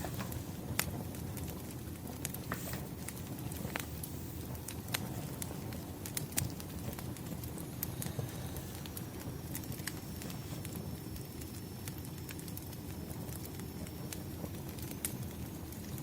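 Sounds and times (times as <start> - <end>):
firewood crackling and popping: 0.0 - 16.0
low rumble of flames: 0.0 - 16.0.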